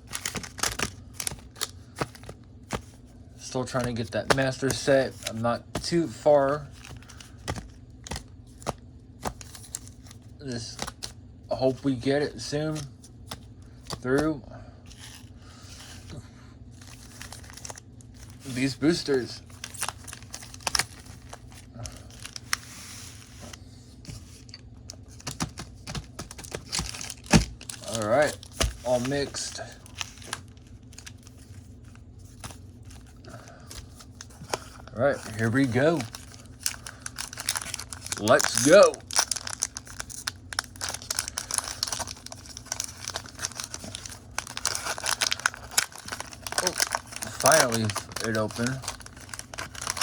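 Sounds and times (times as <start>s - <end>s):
foil wrapper crinkling: 0.0s - 11.1s, 16.7s - 23.6s, 24.4s - 50.0s
packaging rustle: 0.0s - 11.1s, 14.9s - 50.0s
card packs clicking and tapping: 0.0s - 14.3s, 16.8s - 50.0s.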